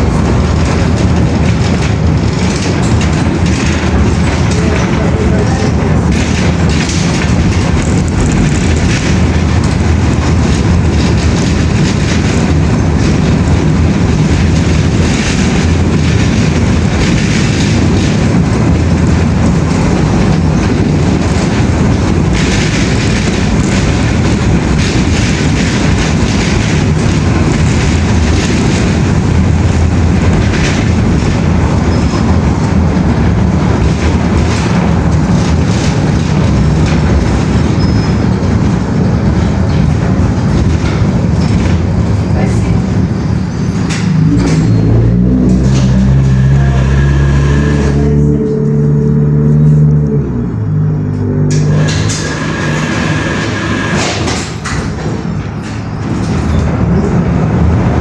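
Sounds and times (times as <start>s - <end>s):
moving vehicle rumbling: 0.0s - 58.0s.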